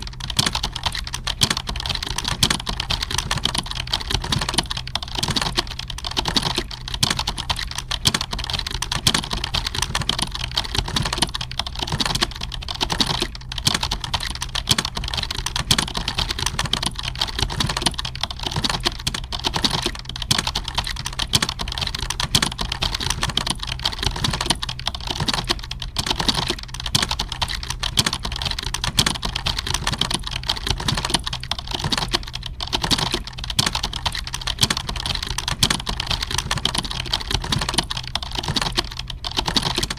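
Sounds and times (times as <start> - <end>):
keyboard key clicks: 0.0 - 39.9
steady low hum: 0.0 - 39.9.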